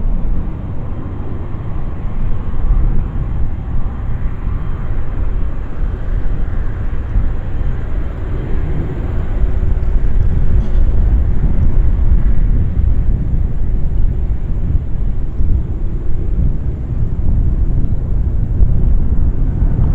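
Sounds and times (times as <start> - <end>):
jet engines rumbling: 0.0 - 19.9.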